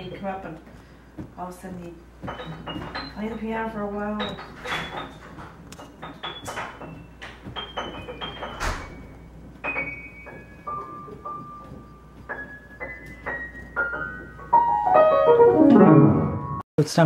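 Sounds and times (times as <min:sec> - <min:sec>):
piano playing: 0:01.7 - 0:16.6.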